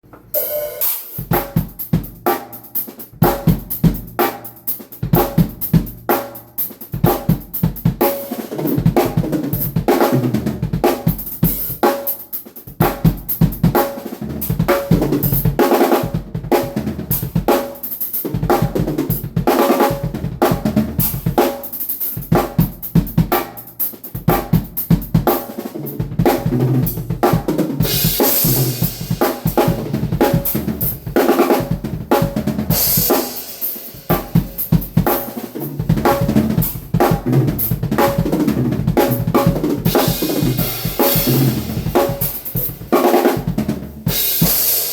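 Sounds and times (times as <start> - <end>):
drum kit groove: 0.0 - 44.9.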